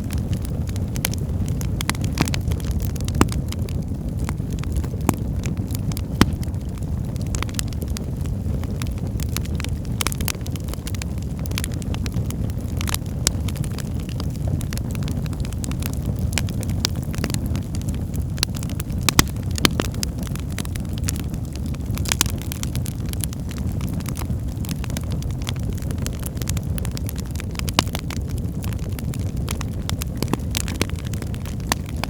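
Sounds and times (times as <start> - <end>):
fire crackling and popping: 0.0 - 32.0
fire flames rumbling: 0.0 - 32.0.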